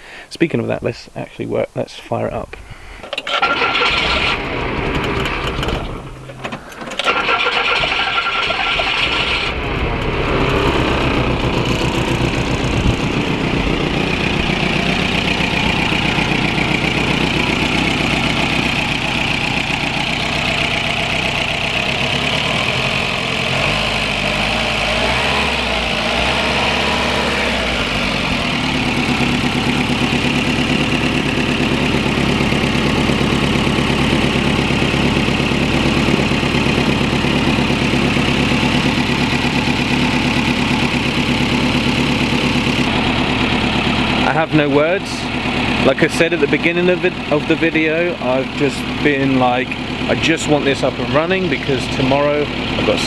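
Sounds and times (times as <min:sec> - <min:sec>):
car engine cranking and starting: 0:03.0 - 0:53.0.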